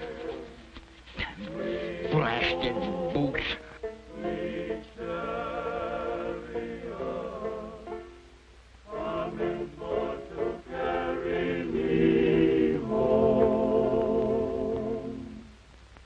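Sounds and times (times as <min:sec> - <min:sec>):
choir singing slow chords: 0:00.0 - 0:15.6.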